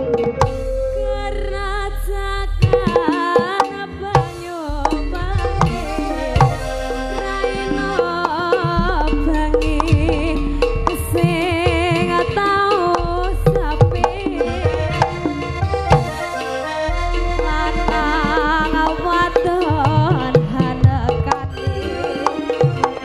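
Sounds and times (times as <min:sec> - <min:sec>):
live band music: 0:00.0 - 0:23.0
sharp drum strokes: 0:00.0 - 0:23.0
woman singing with vibrato: 0:00.5 - 0:23.0.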